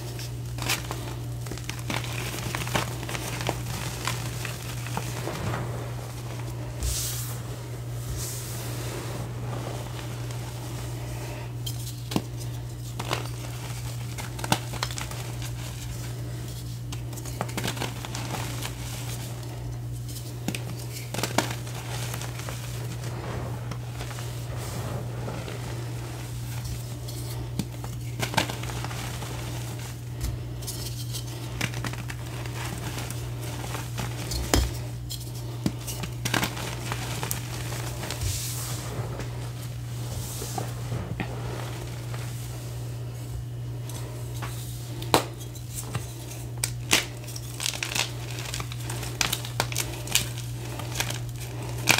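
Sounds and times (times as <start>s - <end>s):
chalk crumbling and crunching: 0.0s - 51.9s
steady low hum: 0.0s - 51.9s.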